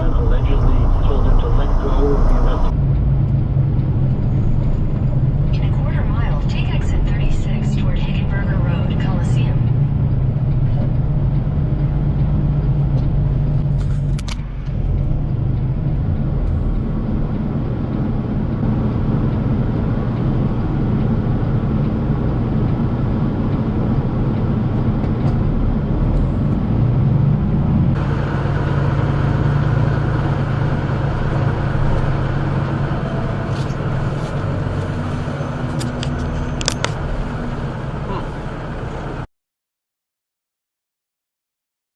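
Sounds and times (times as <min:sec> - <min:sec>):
vehicle engine and road noise: 0:00.0 - 0:39.3.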